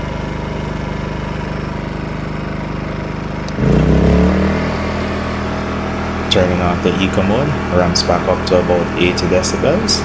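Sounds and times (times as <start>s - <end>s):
generator engine running: 0.0s - 10.0s.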